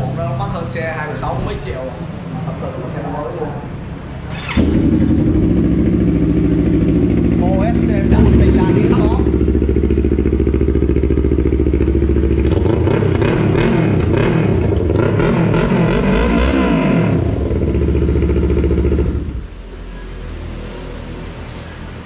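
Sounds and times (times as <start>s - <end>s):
motorcycle engine idling and revving: 3.7s - 22.0s.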